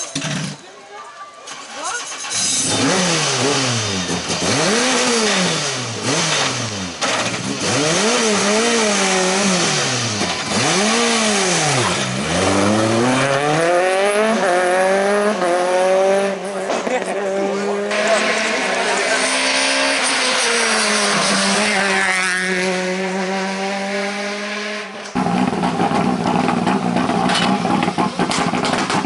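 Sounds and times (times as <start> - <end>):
car engine revving and accelerating: 2.3 - 29.0.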